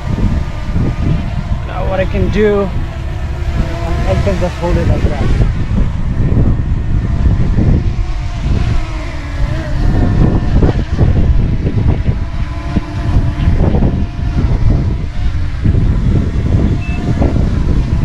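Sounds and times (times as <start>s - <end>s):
drone propellers whirring: 0.0s - 18.0s
low wind rumble on microphone: 0.0s - 18.0s.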